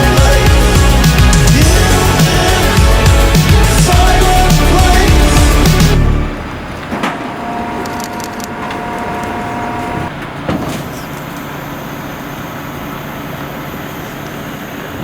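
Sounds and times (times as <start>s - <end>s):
car running with road noise: 0.0s - 15.0s.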